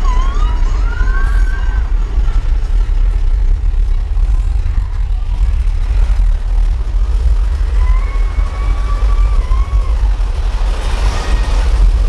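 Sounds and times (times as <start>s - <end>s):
roller coaster deep rumble: 0.0s - 12.0s.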